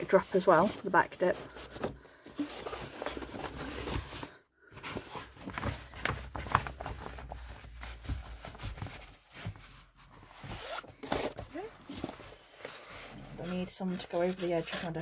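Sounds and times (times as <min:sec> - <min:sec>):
wallpaper rustling and crinkling: 0:00.0 - 0:15.0.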